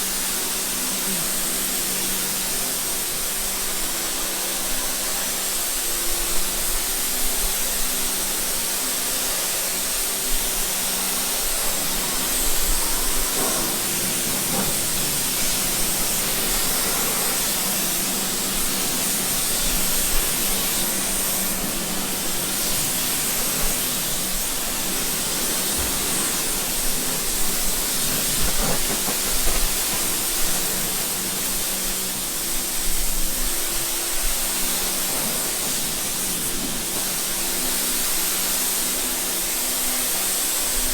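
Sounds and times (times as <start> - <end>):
water spraying: 0.0 - 40.9.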